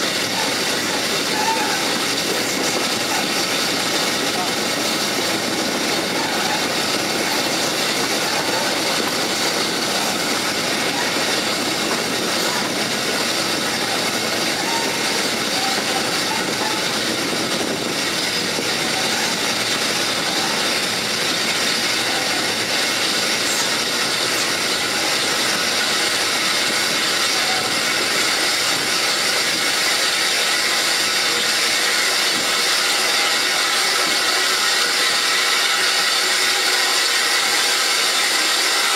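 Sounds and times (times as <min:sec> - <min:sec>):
train wheels on rail: 0:00.0 - 0:38.9.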